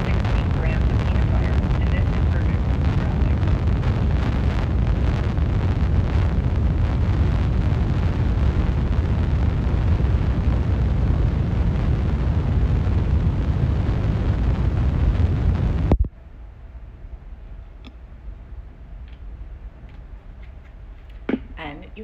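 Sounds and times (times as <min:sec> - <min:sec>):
low rumbling noise: 0:00.0 - 0:22.0.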